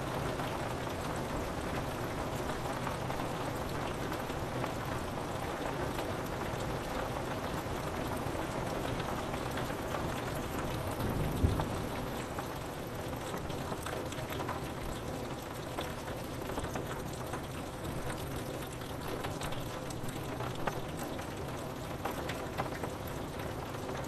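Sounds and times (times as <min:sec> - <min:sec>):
rain hiss on window: 0:00.0 - 0:24.0.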